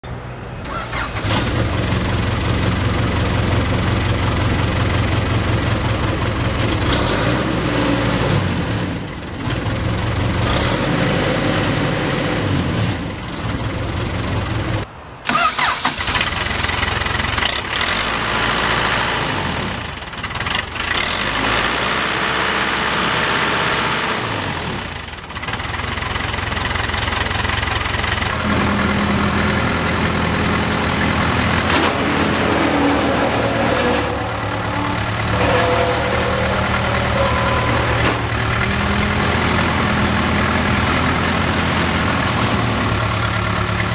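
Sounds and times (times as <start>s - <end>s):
backhoe diesel engine running: 0.0s - 10.5s, 13.0s - 17.8s, 18.6s - 43.9s.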